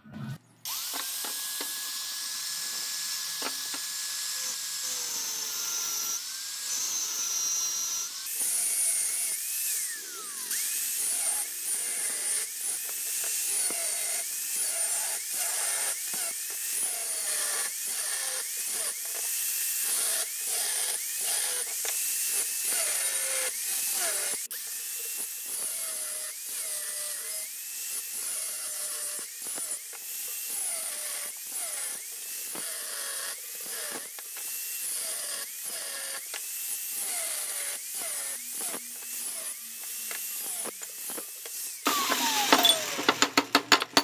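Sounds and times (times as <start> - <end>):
angle grinder grinding steel: 0.0 - 44.0.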